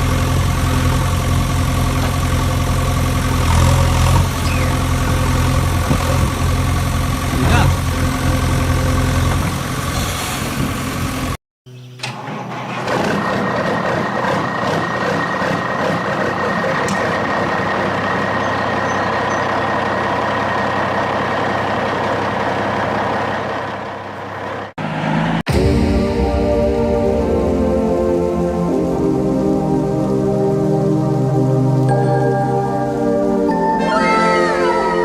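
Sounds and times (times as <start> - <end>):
engine running with high whine: 0.0 - 11.4, 12.0 - 35.0
vehicle engine running: 0.0 - 11.4, 12.2 - 31.8.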